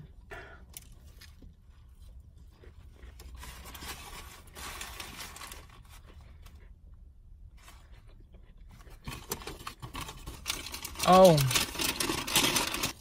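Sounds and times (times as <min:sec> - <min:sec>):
chewing crunchy fried chicken: 0:00.0 - 0:04.6, 0:05.6 - 0:13.0.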